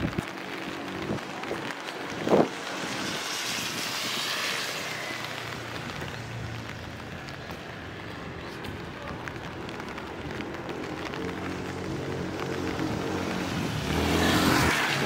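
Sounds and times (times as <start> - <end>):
tyres hissing on wet street: 0.0 - 15.0.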